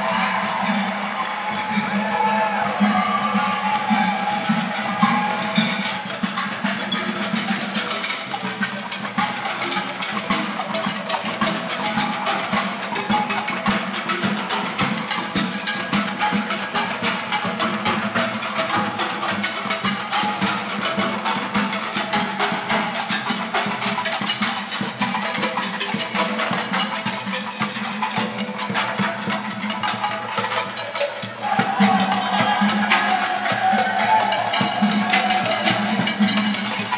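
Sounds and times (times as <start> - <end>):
drumming on pots and pans: 0.0 - 36.9.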